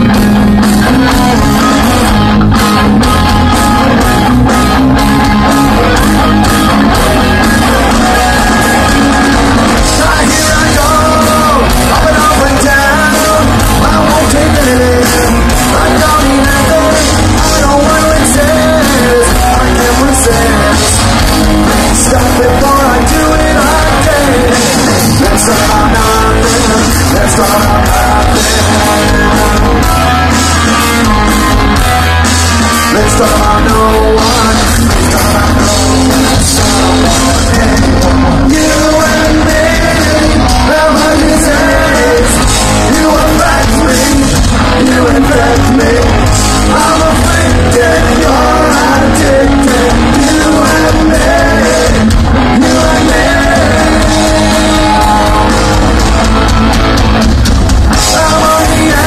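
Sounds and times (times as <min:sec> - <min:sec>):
lead singer: 0:00.0 - 0:59.0
punk rock band playing live: 0:00.0 - 0:59.0.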